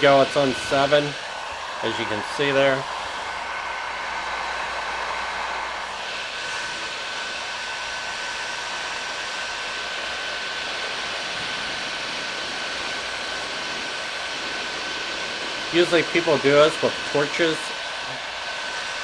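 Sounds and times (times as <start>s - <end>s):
heat gun blowing with high whine: 0.0s - 19.0s.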